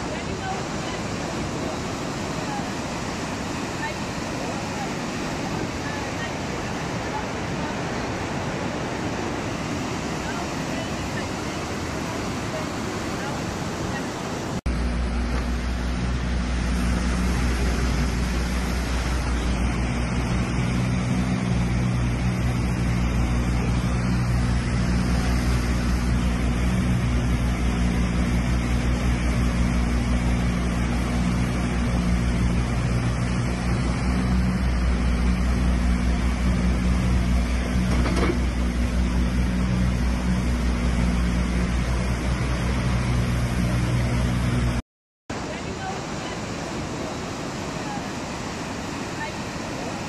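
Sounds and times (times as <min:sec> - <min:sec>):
river rushing with low rumble: 0:00.0 - 0:50.0.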